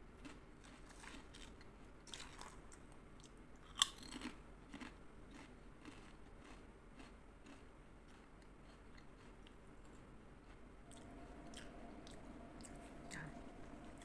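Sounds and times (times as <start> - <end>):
crunchy chewing: 0.2 - 14.0.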